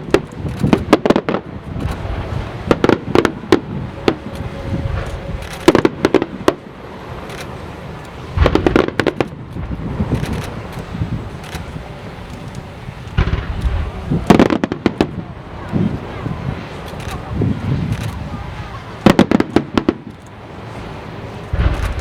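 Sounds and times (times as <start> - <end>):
low rumble: 0.0 - 18.7, 20.9 - 22.0
fireworks bursting with bangs: 0.0 - 22.0.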